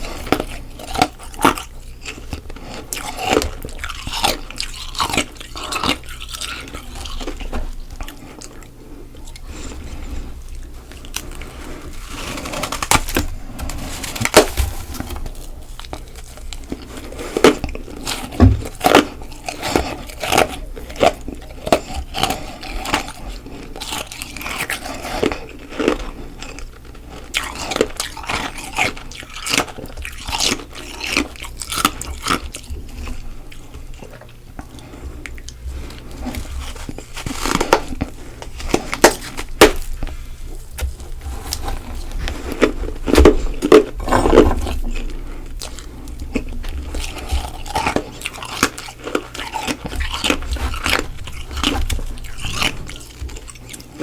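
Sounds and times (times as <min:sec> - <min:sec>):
chewing crunches of frost: 0:00.0 - 0:54.0.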